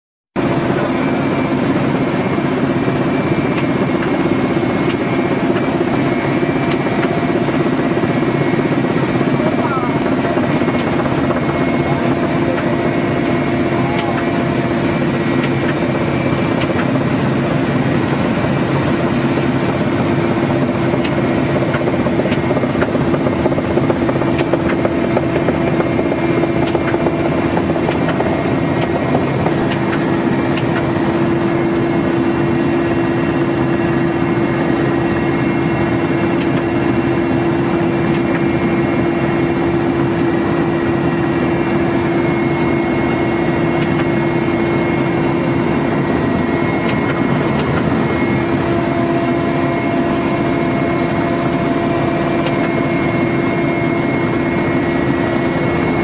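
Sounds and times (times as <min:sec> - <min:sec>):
helicopter engines and rotor drone: 0:00.4 - 0:56.0
high whine: 0:00.4 - 0:56.0.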